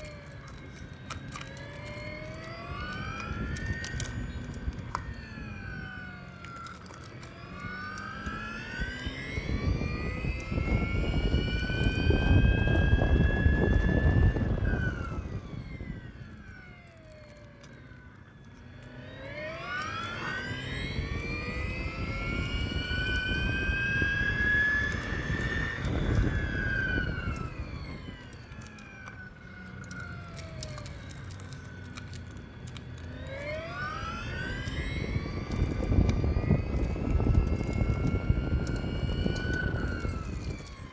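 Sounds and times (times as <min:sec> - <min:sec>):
electric scooter motor whining: 0:00.0 - 0:40.9
wind and road noise: 0:00.0 - 0:40.9.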